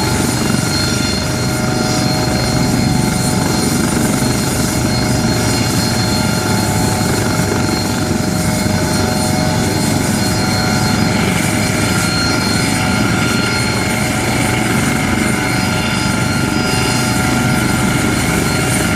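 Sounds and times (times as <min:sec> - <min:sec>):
aircraft engine running: 0:00.0 - 0:18.9
high whining tones: 0:00.0 - 0:18.9.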